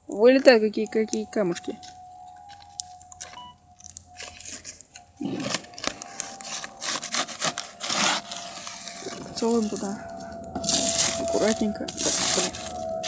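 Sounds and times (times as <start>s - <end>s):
bonfire crackling: 0.0s - 13.0s
crunching and rustling: 1.6s - 13.0s.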